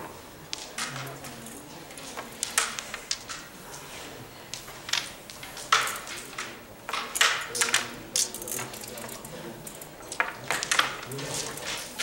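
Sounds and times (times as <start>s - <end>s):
carrom pieces clacking: 0.5s - 3.5s, 4.5s - 12.0s.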